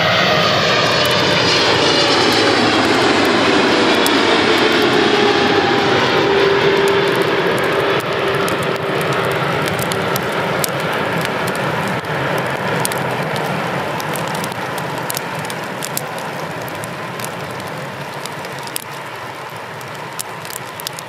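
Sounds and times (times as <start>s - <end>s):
jet engine roar with whine: 0.0s - 21.0s.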